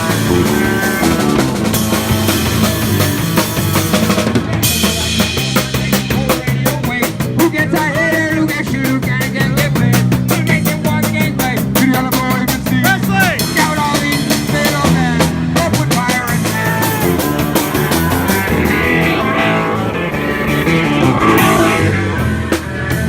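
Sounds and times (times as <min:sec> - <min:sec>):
drum kit beat: 0:00.0 - 0:23.0
electric guitar: 0:00.0 - 0:23.0.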